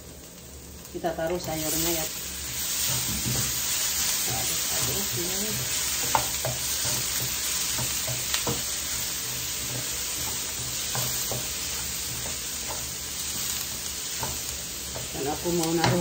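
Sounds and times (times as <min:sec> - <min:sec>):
vegetables sizzling in wok: 0:00.0 - 0:16.0
spatula scraping pan: 0:01.7 - 0:16.0.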